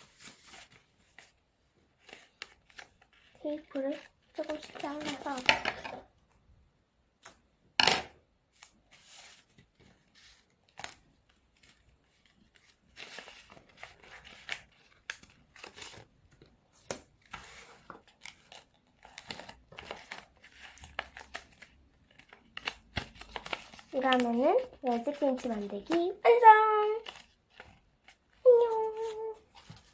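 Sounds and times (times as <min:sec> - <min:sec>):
paper crinkling: 0:02.0 - 0:06.0, 0:08.5 - 0:29.9.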